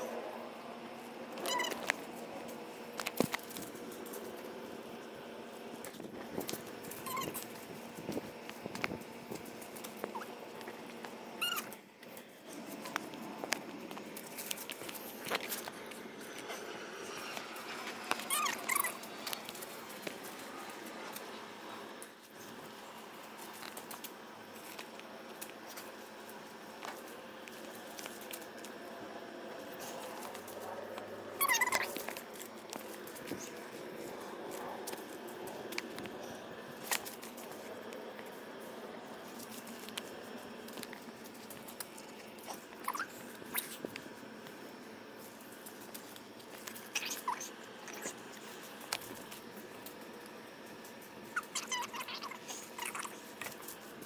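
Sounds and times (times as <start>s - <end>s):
paper crackling in flame: 1.3s - 54.0s.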